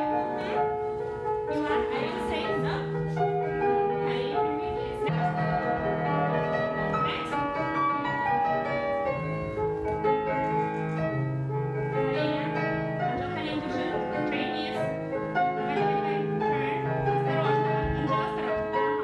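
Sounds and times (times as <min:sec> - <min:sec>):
classical piano music: 0:00.0 - 0:19.0.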